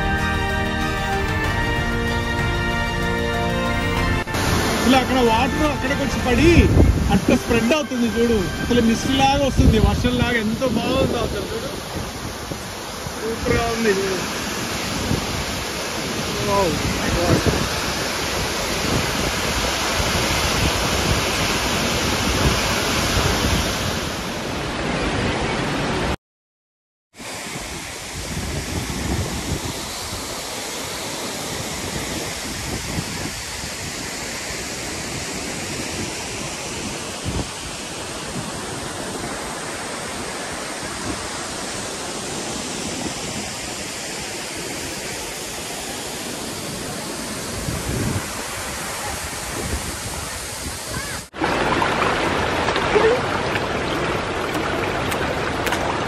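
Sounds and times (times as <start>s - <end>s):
waterfall rushing onto boulders: 4.1s - 26.2s, 27.2s - 56.0s.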